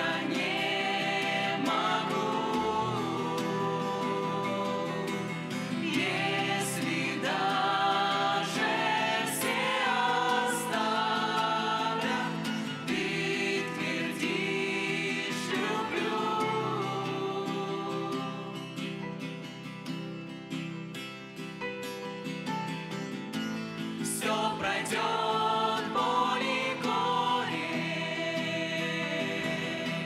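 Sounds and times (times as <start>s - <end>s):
voices singing together: 0.0s - 19.0s, 24.0s - 30.0s.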